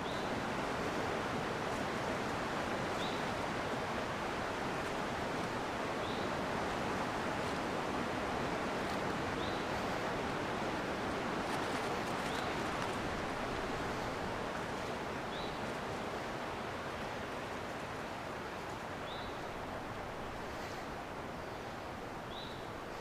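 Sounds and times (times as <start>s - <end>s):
wind rushing through trees: 0.0s - 23.0s.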